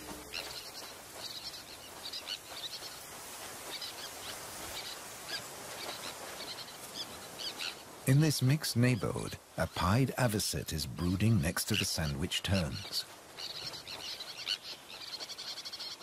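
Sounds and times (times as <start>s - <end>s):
seabirds calling: 0.0s - 16.0s
steady outdoor hiss: 0.0s - 16.0s.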